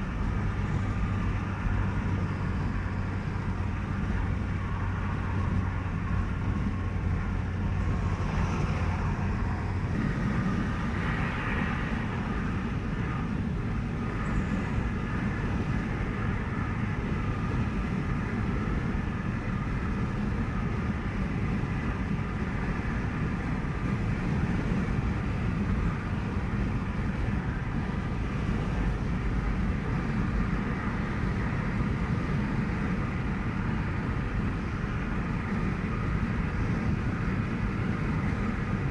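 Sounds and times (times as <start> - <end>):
car driving on highway: 0.0 - 38.9.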